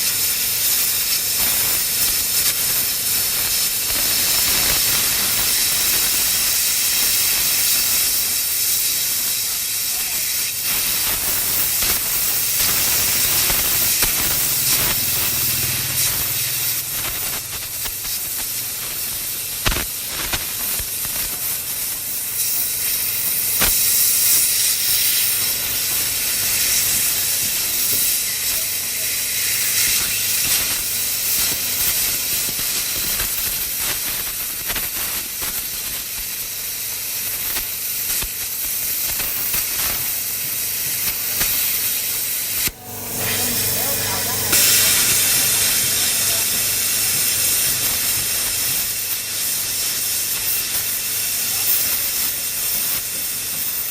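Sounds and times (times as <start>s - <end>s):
plasma cutter torch hissing: 0.0s - 53.9s.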